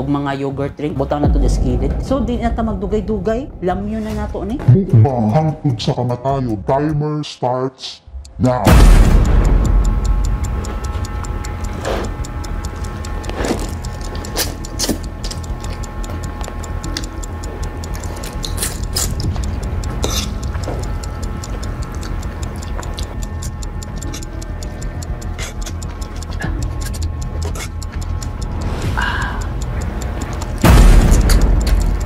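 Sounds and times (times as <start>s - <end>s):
low steady music: 0.0s - 32.0s
ticking clock: 0.0s - 32.0s.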